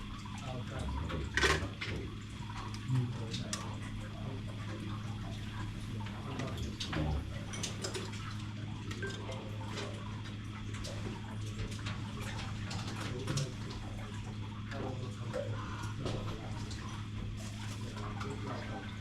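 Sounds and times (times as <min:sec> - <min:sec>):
steady low hum: 0:00.0 - 0:19.0
water clicks and drips: 0:00.0 - 0:19.0.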